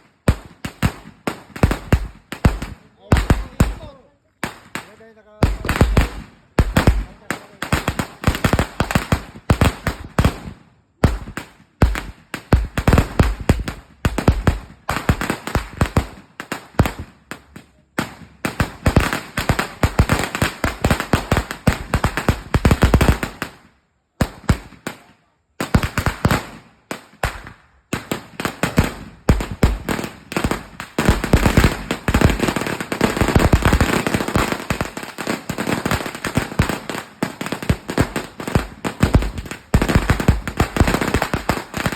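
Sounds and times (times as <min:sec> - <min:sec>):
firecracker string popping: 0:00.0 - 0:41.9.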